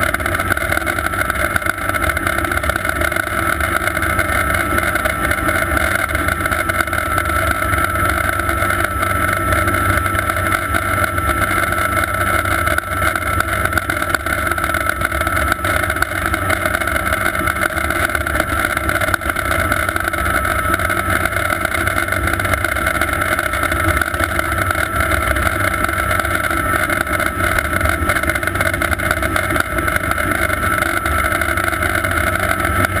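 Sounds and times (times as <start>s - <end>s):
helicopter in flight: 0.0s - 33.0s.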